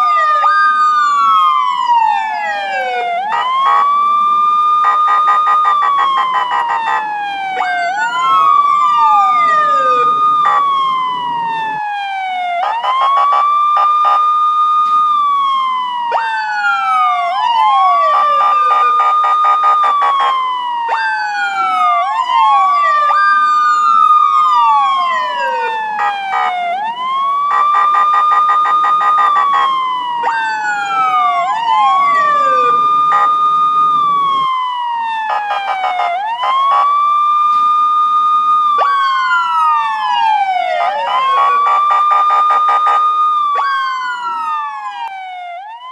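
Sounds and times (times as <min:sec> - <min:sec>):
police siren wailing: 0:00.0 - 0:45.9.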